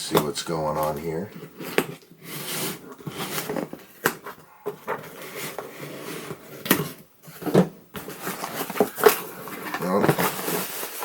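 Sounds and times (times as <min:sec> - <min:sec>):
packaging rustling and crinkling: 0:00.2 - 0:11.0.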